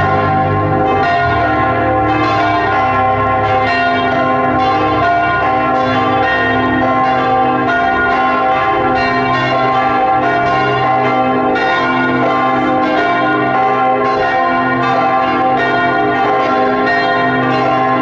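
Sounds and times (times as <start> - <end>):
church bells pealing: 0.0 - 18.0.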